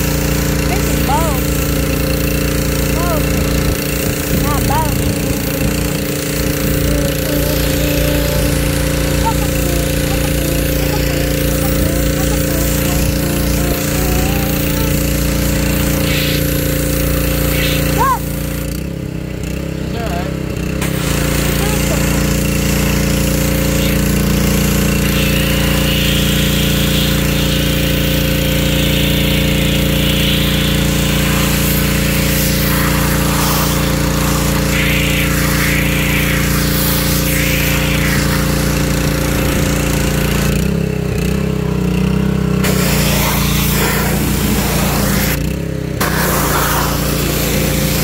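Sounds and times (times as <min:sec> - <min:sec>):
water jet hissing on car: 0:00.0 - 0:18.6, 0:20.8 - 0:40.4, 0:42.6 - 0:45.4, 0:46.0 - 0:48.0
pressure washer motor humming: 0:00.0 - 0:48.0.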